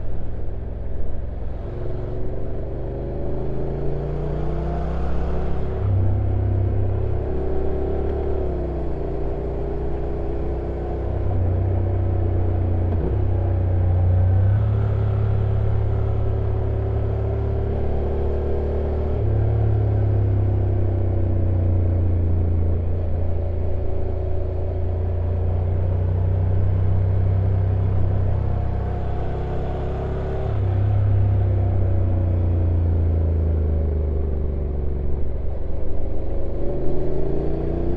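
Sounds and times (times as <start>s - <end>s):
motorcycle engine humming: 0.0s - 37.9s
road and wind noise: 0.0s - 37.9s.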